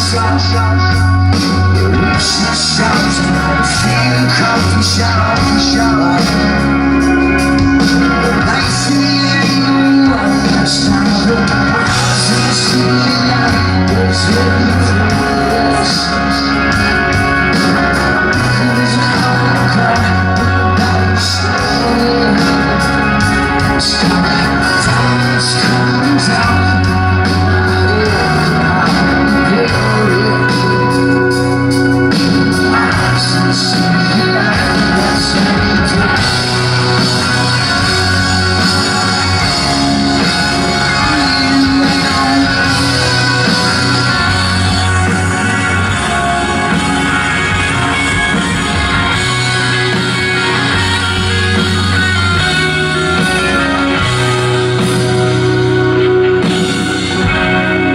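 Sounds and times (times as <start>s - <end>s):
live rock band playing: 0.0s - 57.9s
person singing: 0.0s - 57.9s.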